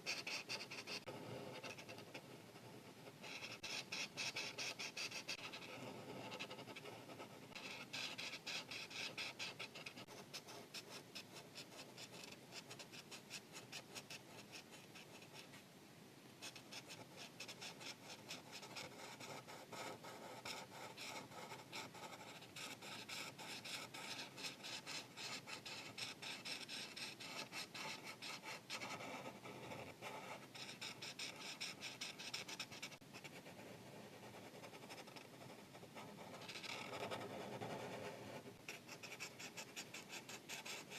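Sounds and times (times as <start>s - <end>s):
marker rubbing on paper: 0.0s - 15.6s, 16.4s - 33.6s, 34.2s - 40.9s.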